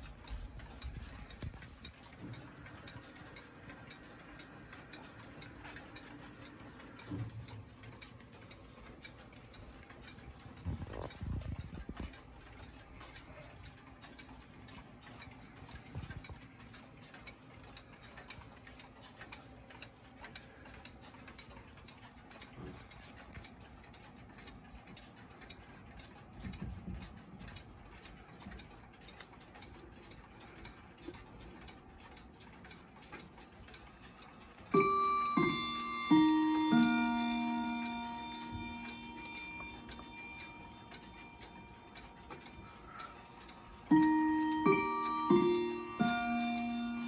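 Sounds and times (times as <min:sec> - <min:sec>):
clock hand click: 0:00.0 - 0:47.0
wall clock ticking: 0:00.0 - 0:47.0.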